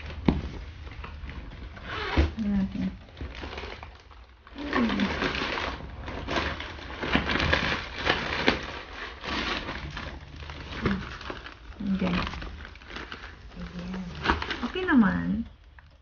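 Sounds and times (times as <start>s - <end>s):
plastic packing crinkling: 0.0s - 16.0s.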